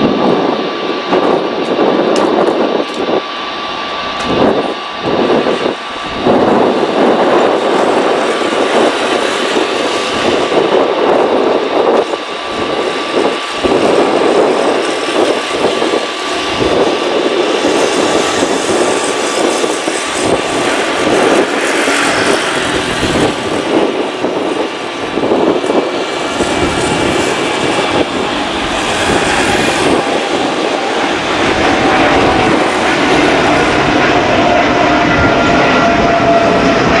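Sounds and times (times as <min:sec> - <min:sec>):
jet engines at takeoff thrust: 0:00.0 - 0:37.0.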